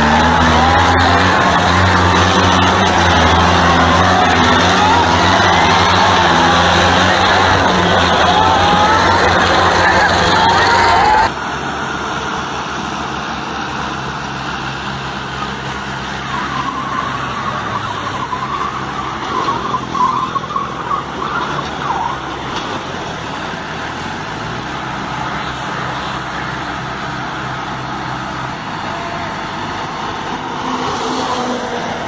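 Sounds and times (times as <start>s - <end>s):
tractor engines running: 0.0s - 32.0s.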